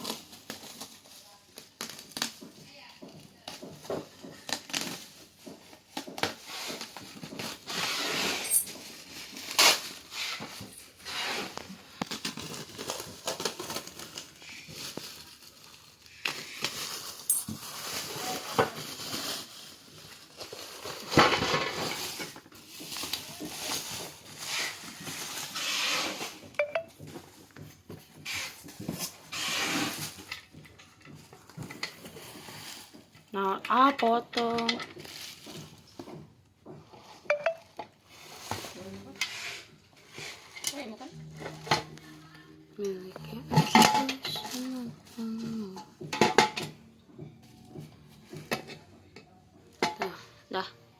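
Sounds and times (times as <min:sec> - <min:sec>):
packaging rustling and crinkling: 0:00.0 - 0:33.4, 0:34.9 - 0:46.5.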